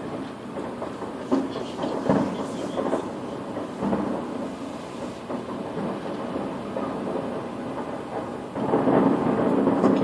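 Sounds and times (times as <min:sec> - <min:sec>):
distant fireworks booming: 0:00.0 - 0:10.0.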